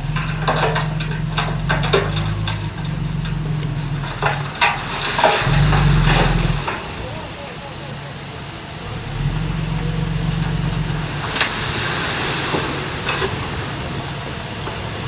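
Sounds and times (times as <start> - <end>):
diesel machine engine under load: 0.0 - 15.0
metallic clanks: 0.0 - 15.0.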